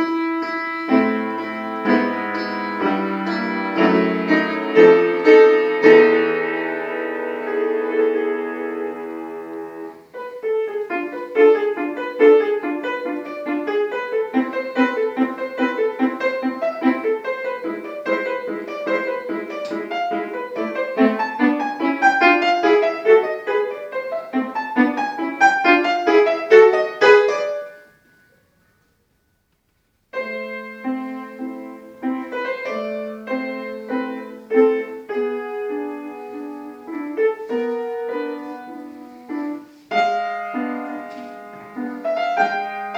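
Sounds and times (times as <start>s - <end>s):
solo piano classical piece: 0.0s - 42.9s.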